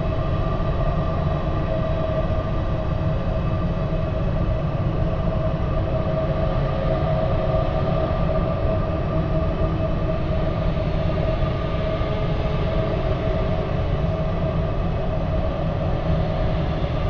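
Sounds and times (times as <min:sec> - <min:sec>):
low ambient drone: 0:00.0 - 0:17.0.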